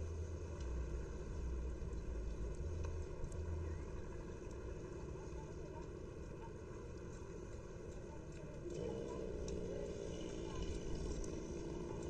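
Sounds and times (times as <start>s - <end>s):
low uneven rumble: 0.0s - 12.0s
outdoor background noise: 0.0s - 12.0s.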